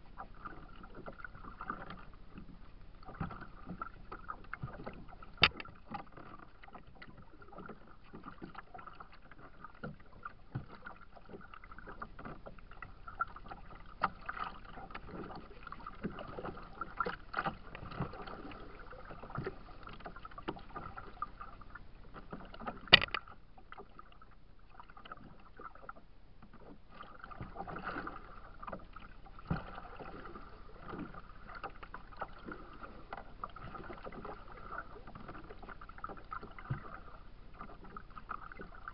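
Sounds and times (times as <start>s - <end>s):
water lapping against a hull: 0.0s - 38.9s.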